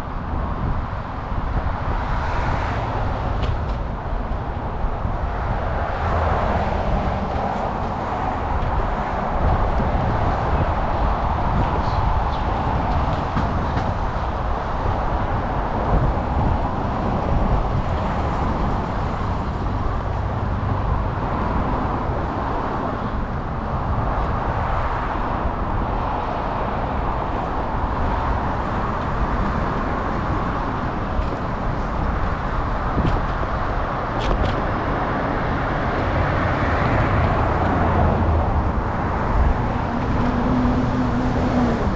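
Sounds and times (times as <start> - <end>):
passing road traffic: 0.0 - 41.9
wind buffeting microphone: 0.0 - 41.9.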